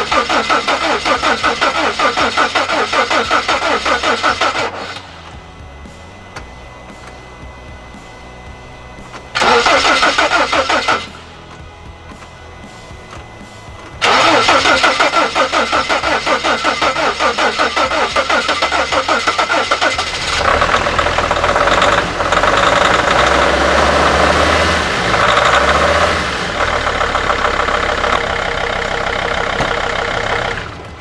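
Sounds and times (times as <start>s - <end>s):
diesel engine running: 0.0s - 31.0s
diesel engine starter cranking: 0.0s - 31.0s.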